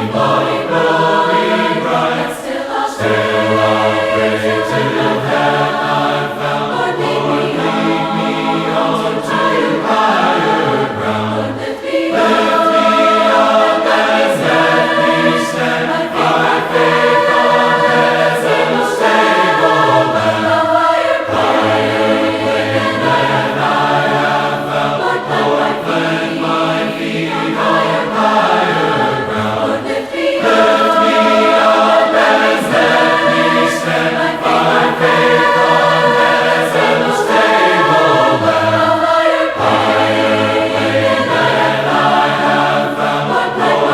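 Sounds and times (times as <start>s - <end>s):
choir singing a hymn: 0.0s - 43.9s.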